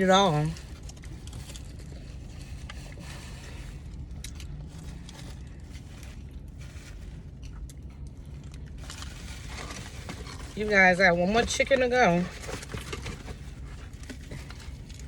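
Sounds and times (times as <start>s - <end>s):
low hum inside car: 0.0s - 15.0s
chewing crunches: 0.5s - 10.6s, 12.4s - 15.0s.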